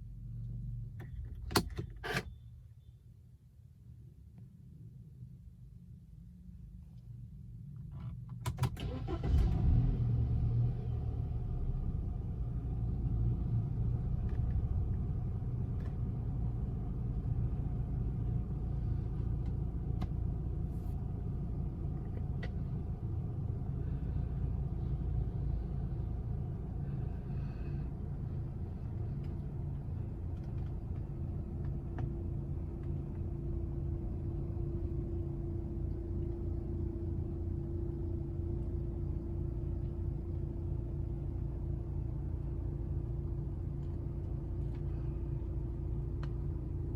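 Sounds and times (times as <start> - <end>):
car engine starting and idling: 7.8 - 46.9.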